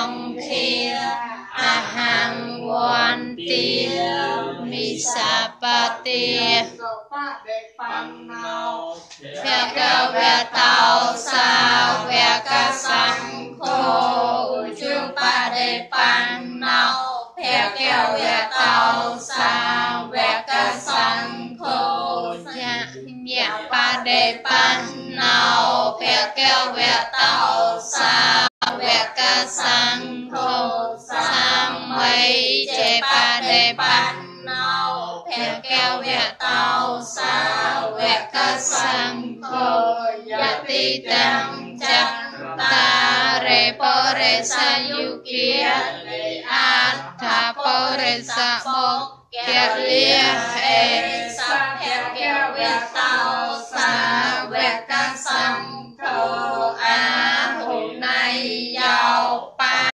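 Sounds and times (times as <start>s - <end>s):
group of voices chanting: 0.0s - 6.9s, 7.8s - 59.9s.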